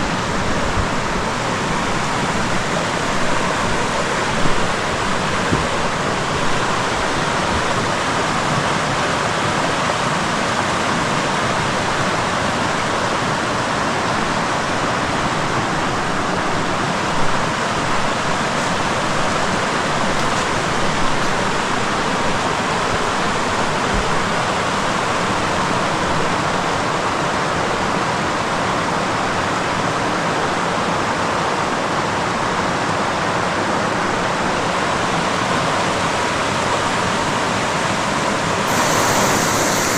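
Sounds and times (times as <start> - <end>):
creek and waterfall rushing: 0.0 - 39.9.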